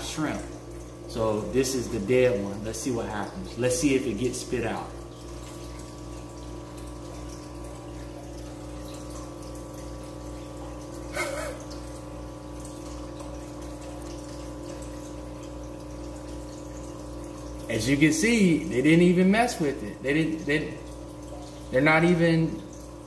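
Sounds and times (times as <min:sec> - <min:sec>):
aquarium air bubbling: 0:00.0 - 0:23.0.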